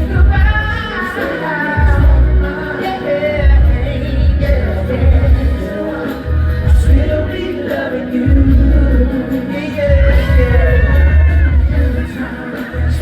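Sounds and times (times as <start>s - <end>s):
amplified pop music with singer: 0.0s - 13.0s.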